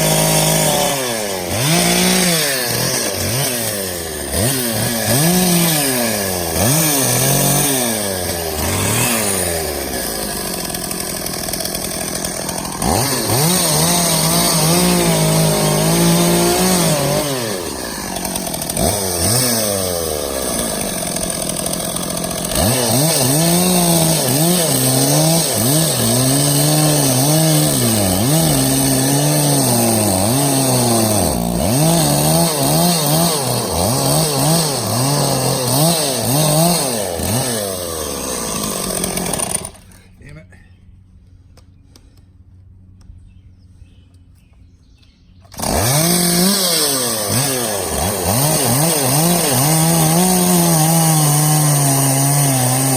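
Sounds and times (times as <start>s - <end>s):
chainsaw cutting wood: 0.0s - 40.2s, 45.4s - 52.9s.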